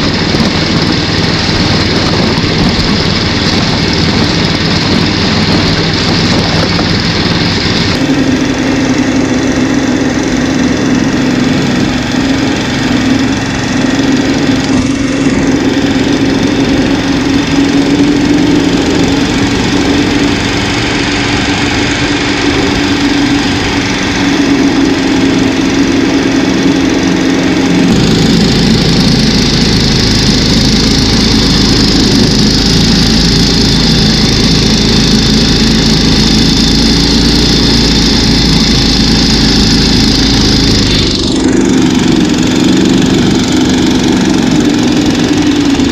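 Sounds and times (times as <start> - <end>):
snow machine engine running: 0.0 - 45.9.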